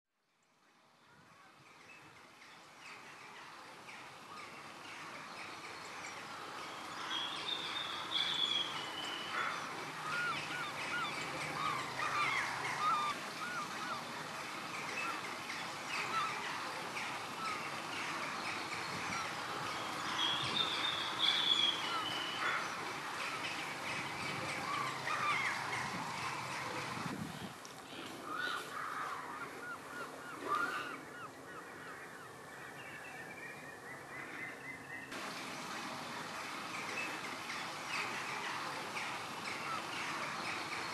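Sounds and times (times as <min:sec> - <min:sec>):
many birds calling: 0:01.1 - 0:40.9.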